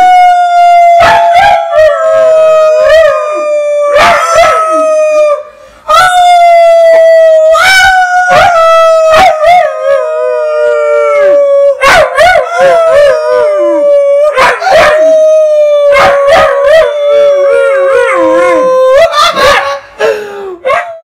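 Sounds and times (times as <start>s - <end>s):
puppy howling: 0.0s - 19.7s.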